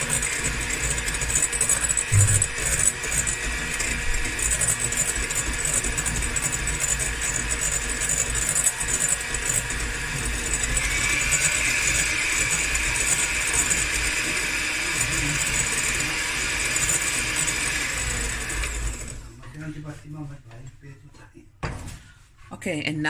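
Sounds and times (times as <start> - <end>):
electric hand mixer whisking: 0.0 - 19.7.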